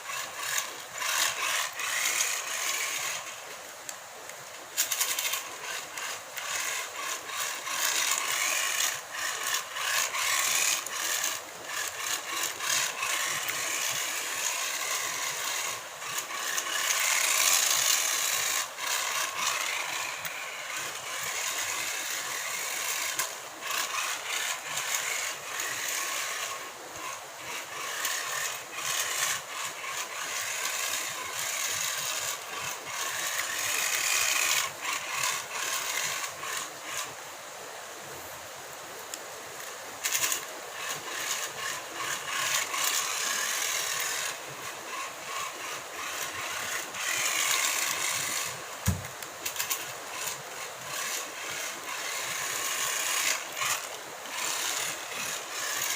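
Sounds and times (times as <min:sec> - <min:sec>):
toy car motor whirring: 0:00.0 - 0:37.6, 0:39.0 - 0:55.9.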